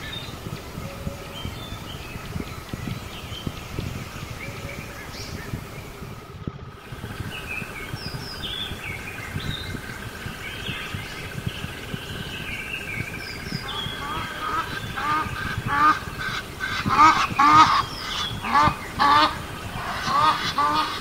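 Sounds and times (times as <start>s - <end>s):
birds chirping: 0.0s - 21.0s
outdoor background noise: 0.0s - 21.0s.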